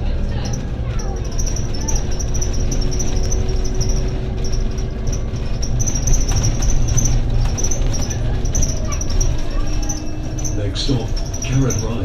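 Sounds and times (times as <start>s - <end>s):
bus diesel engine and road rumble: 0.0s - 12.0s
constant hum: 0.0s - 12.0s.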